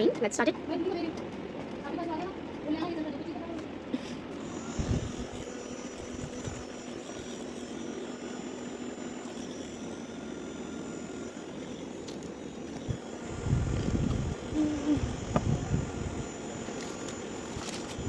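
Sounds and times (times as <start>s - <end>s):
small fan whirring: 0.0s - 18.0s.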